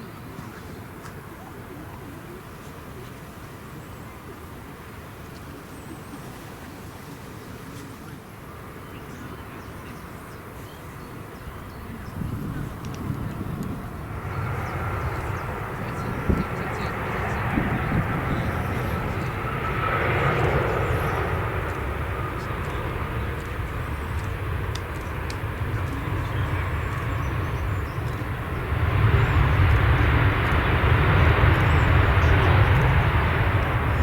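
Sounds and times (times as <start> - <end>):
jet airliner engines rushing: 0.0 - 34.0.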